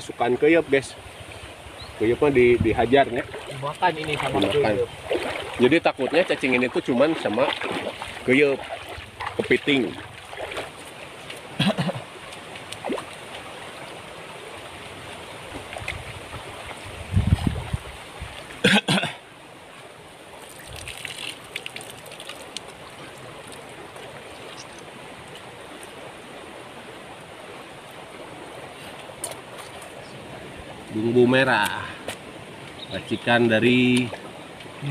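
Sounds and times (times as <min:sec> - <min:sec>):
river water flowing over stones: 0:00.0 - 0:34.9.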